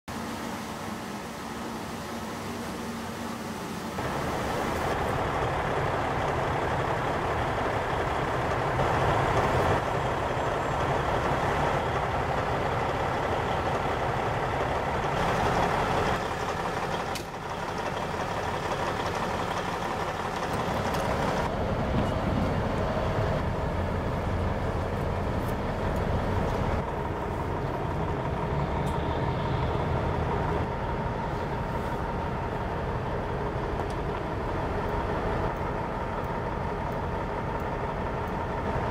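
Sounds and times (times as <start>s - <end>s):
diesel truck engine rumbling: 0.2s - 38.9s.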